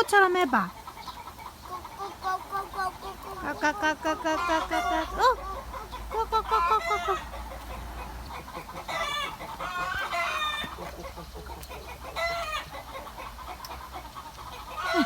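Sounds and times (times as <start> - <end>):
chicken calling: 0.6 - 15.0.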